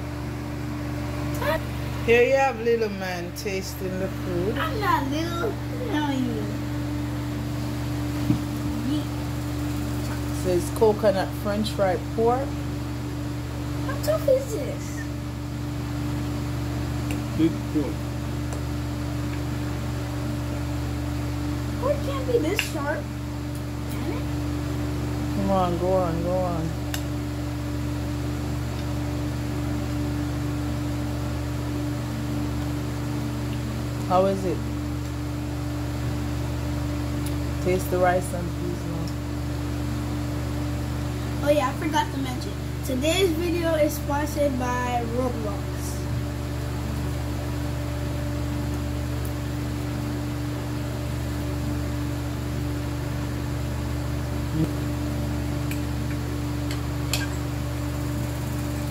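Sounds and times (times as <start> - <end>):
mechanical hum: 0.0 - 58.9.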